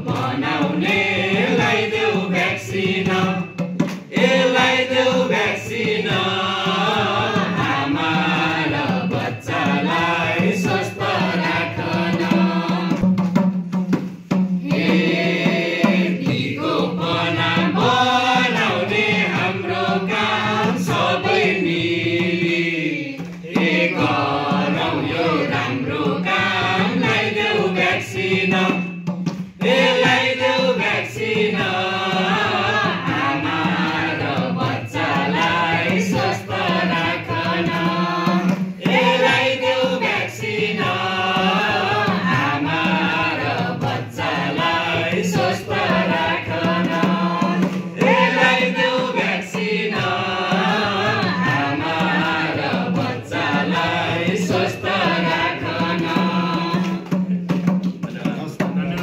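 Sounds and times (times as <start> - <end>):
group singing in unison: 0.0 - 59.0.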